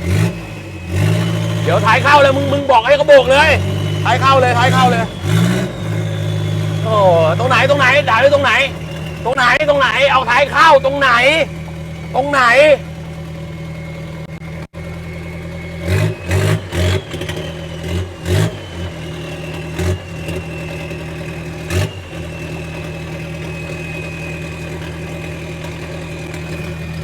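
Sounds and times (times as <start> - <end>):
car engine idling with throttle blips: 0.0 - 27.0.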